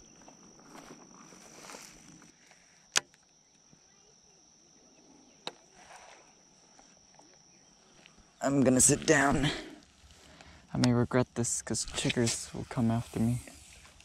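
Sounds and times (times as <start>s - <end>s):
insect buzz: 0.0s - 14.0s.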